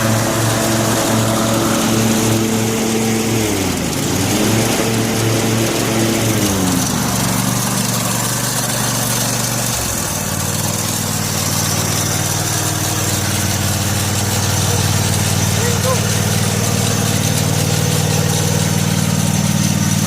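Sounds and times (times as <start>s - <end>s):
lawn tractor engine running: 0.0s - 20.0s.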